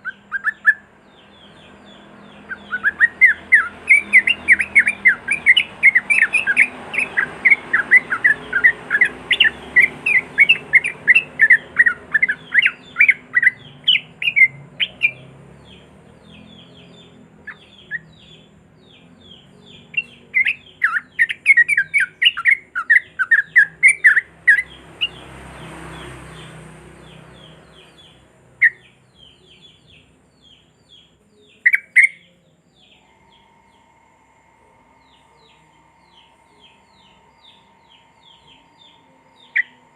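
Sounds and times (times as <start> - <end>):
bird singing rapid chirping song: 0.0 - 39.9.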